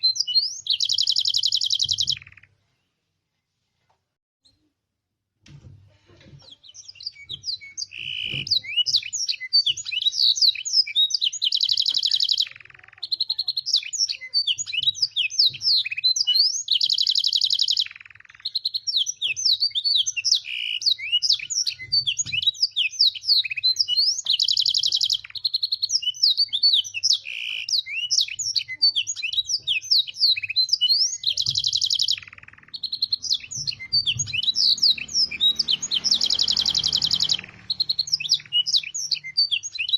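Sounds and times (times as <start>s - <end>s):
canary singing: 0.0s - 2.6s, 6.4s - 39.9s
canary trill: 0.0s - 2.6s, 6.2s - 39.9s.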